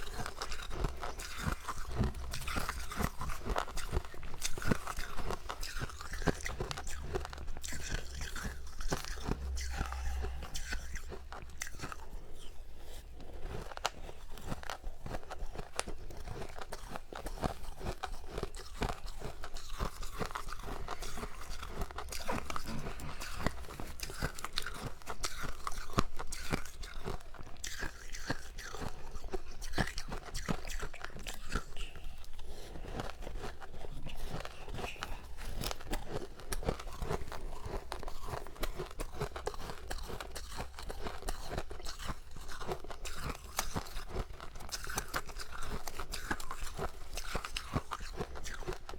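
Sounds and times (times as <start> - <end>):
crunching of frost being chewed: 0.0 - 48.9.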